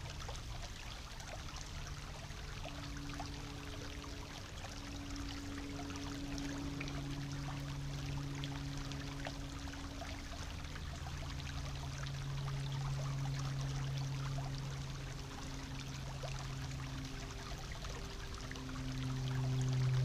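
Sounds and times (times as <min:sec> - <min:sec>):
brook trickling over stones: 0:00.0 - 0:20.0
low hum: 0:00.0 - 0:20.0.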